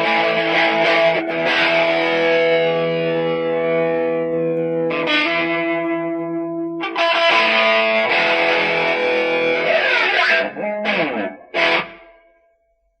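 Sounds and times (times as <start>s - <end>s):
distorted electric guitar chords: 0.0s - 12.5s.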